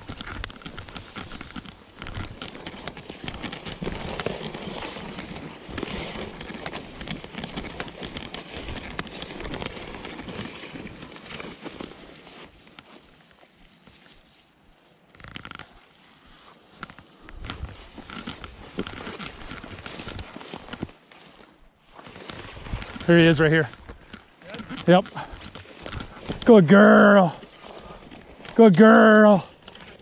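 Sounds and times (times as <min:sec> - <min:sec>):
brisk footsteps: 0:00.0 - 0:30.0
dry weeds crackling and rustling: 0:00.0 - 0:30.0.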